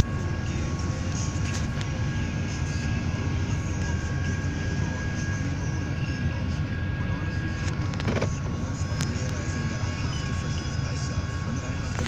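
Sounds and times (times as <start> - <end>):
faint steady high tones: 0.0 - 12.0.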